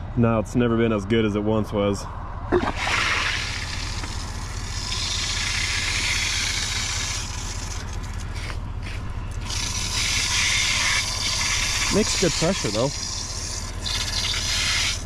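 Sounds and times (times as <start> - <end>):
pump humming: 2.5 - 15.0
water rushing through pipe: 2.6 - 15.0.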